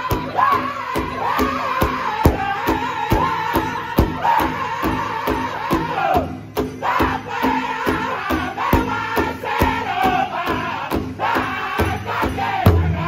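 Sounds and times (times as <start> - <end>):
group singing in high unison: 0.0 - 13.0
large hide drum beat: 0.0 - 13.0.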